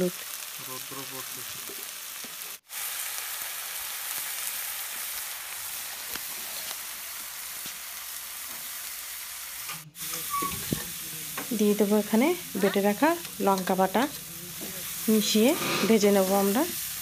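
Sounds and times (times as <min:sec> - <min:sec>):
masala sizzling in hot oil: 0:00.0 - 0:17.0.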